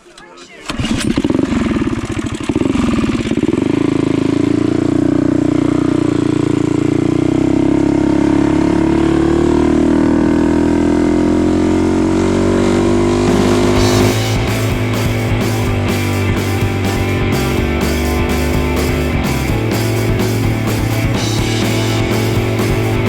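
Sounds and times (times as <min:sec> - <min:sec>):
mini bike engine revving high: 0:00.7 - 0:23.0.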